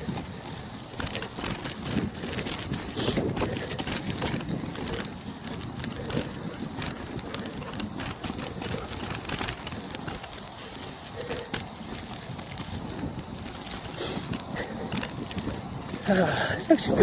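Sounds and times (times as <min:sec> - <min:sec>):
bicycle tyres rumbling: 0:00.0 - 0:17.0
bike clicks and rattles: 0:00.0 - 0:17.0
wind buffeting microphone: 0:00.0 - 0:17.0.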